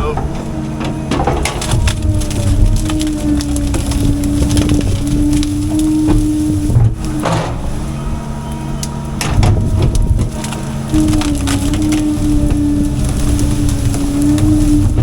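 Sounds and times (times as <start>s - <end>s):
excavator engine hum: 0.0s - 15.0s
wood cracking and splintering: 0.0s - 15.0s.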